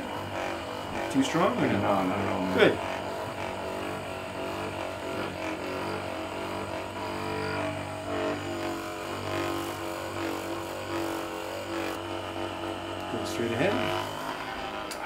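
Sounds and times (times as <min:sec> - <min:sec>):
massage gun motor humming: 0:00.0 - 0:15.0.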